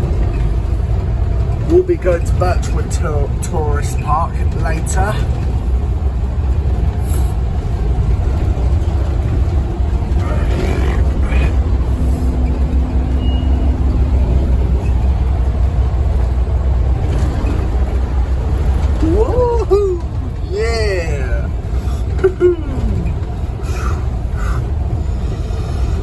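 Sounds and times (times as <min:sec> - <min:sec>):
diesel bus engine rumble: 0:00.0 - 0:26.0
road noise: 0:00.0 - 0:26.0.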